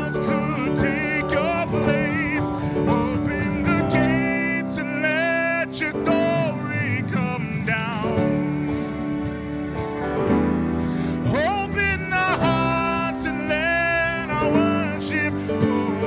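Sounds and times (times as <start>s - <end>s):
person singing lead vocals: 0.0s - 9.6s, 10.7s - 16.0s
electric bass: 0.0s - 16.0s
electric guitar: 0.0s - 16.0s
live band playing: 0.0s - 16.0s.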